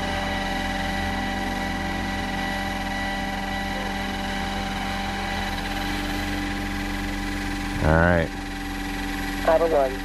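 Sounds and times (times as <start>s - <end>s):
rc helicopter rotors humming: 0.0s - 10.0s.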